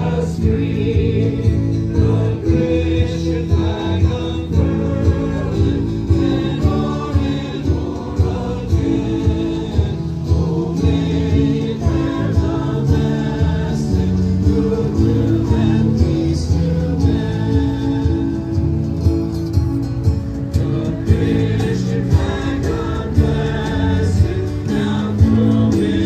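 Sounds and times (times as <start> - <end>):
group singing a hymn: 0.0 - 19.2, 20.4 - 26.0
instrumental accompaniment with beat: 0.0 - 26.0.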